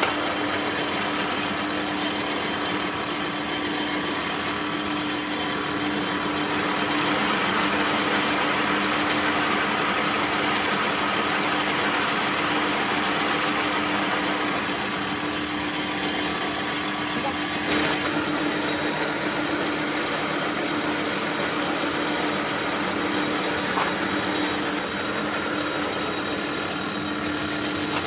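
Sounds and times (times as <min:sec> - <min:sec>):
workshop machine motor humming: 0:00.0 - 0:28.0.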